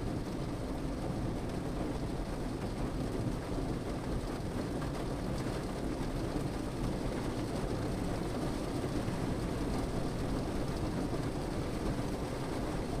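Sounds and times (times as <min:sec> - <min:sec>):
rain pattering on a car roof: 0:00.0 - 0:13.0.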